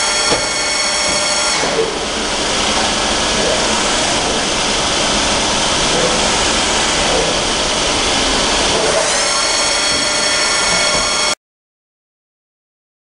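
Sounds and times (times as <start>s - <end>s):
milling machine drive whining: 0.0s - 11.4s.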